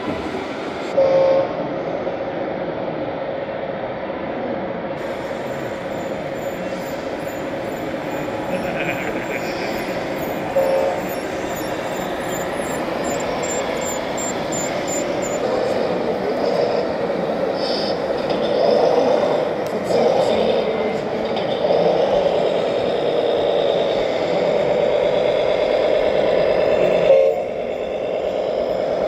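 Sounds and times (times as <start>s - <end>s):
crowd murmur: 0.0s - 29.0s
electronic diesel engine drone: 5.0s - 29.0s.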